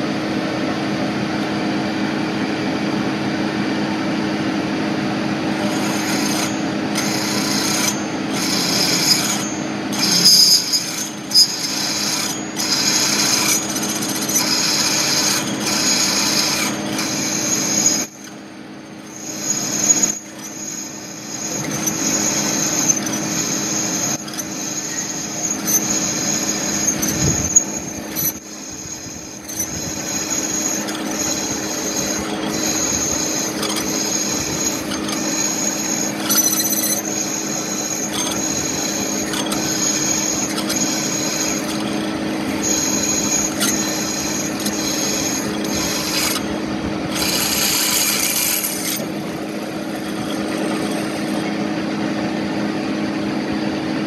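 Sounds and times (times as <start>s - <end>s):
milling machine humming: 0.0s - 54.0s
drill bit squealing on metal: 5.4s - 51.8s.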